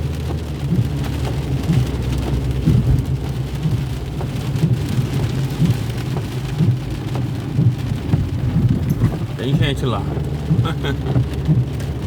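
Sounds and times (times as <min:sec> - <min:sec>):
drops ticking on car body: 0:00.0 - 0:12.0
engine and road hum: 0:00.0 - 0:12.0
heavy rain on car: 0:00.0 - 0:12.0.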